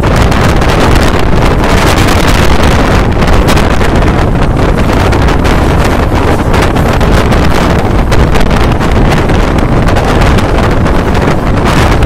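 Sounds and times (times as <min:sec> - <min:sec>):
electric train running at speed: 0:00.0 - 0:12.0
wind buffeting microphone: 0:00.0 - 0:12.0.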